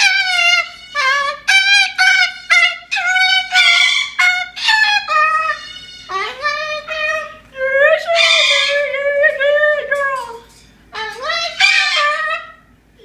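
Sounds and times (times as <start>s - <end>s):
cockatoo singing: 0.0s - 13.0s.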